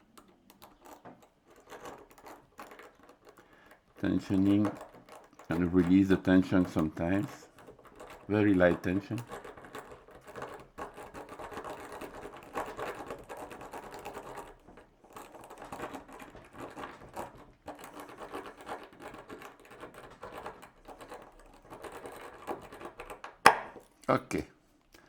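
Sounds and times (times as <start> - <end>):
lock pick scraping in padlock: 0.0 - 23.6.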